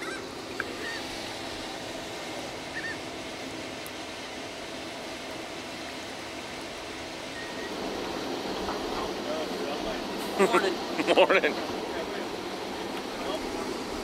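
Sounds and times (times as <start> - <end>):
ship engine machinery hum: 0.0 - 14.0.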